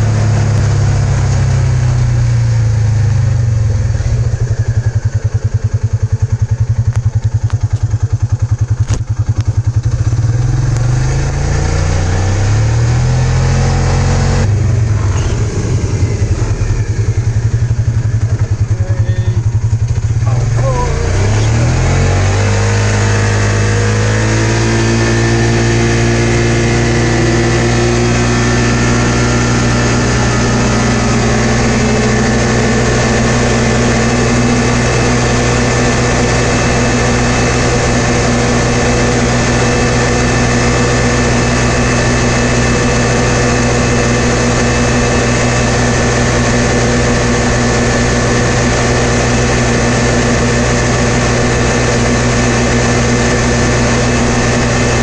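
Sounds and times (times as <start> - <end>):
engine accelerating at high pitch: 0.0 - 55.0.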